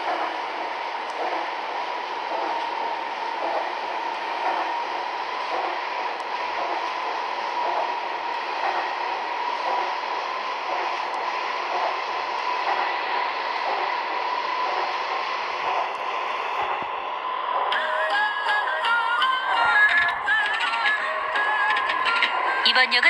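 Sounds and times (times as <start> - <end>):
subway train wheels rumbling: 0.0 - 23.0.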